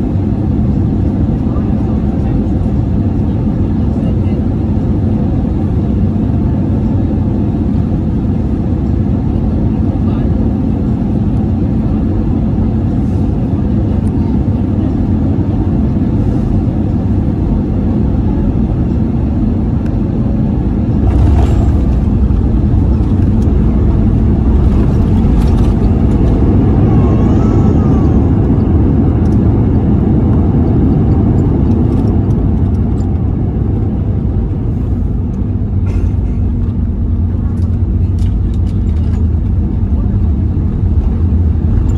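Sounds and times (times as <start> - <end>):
engine and airflow rumble: 0.0 - 41.9.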